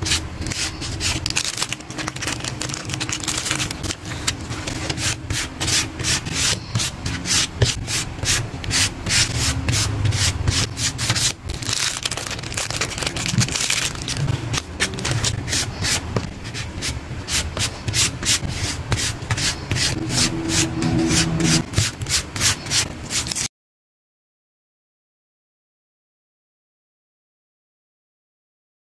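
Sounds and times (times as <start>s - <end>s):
paper rubbing and sliding: 0.0s - 23.5s.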